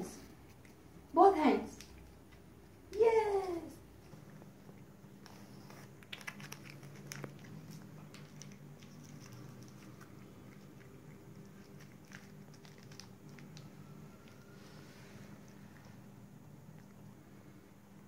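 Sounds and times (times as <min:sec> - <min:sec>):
low steady hum: 0:00.0 - 0:18.0
cat chewing with crunches: 0:00.2 - 0:01.1, 0:03.9 - 0:18.0.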